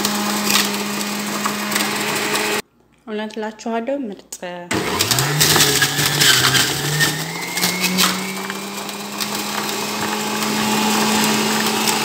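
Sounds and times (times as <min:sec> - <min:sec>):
juicer motor hum: 0:00.0 - 0:02.6, 0:04.7 - 0:12.0.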